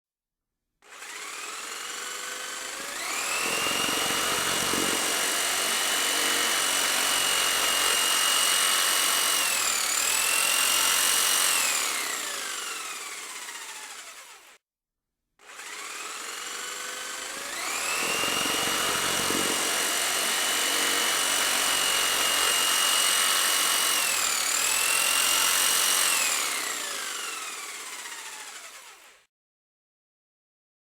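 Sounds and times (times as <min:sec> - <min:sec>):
circular saw motor whining: 0:01.0 - 0:14.4, 0:15.5 - 0:29.2.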